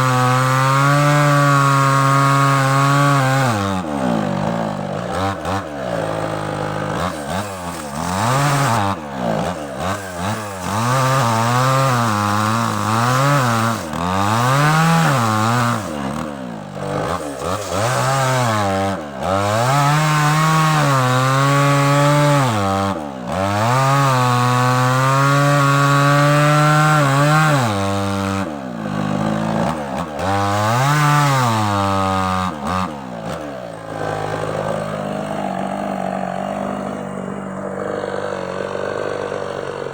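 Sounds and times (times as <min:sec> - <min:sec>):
chainsaw engine revving: 0:00.0 - 0:39.9
chainsaw sawing wood: 0:00.0 - 0:39.9.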